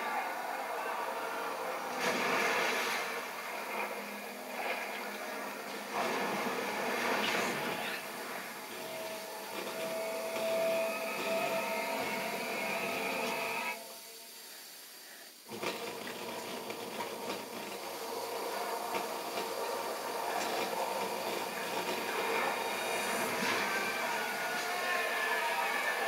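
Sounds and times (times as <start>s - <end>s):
rushing hiss with crackles: 0.0s - 26.0s.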